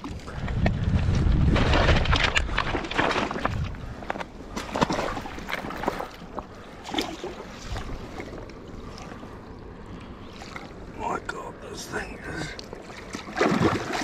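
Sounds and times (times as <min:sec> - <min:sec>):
water splashing in shallows: 0:01.6 - 0:14.0
water lapping: 0:02.8 - 0:14.0.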